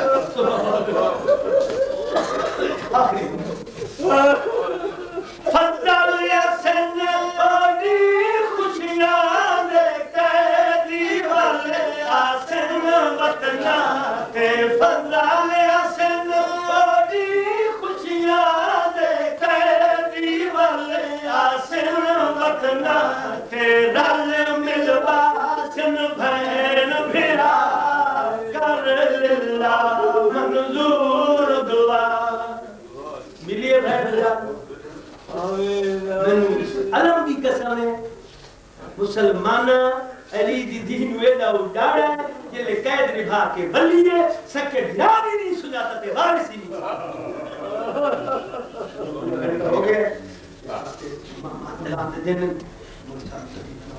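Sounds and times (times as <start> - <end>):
men chanting a lament: 0.0 - 37.8, 38.9 - 50.3.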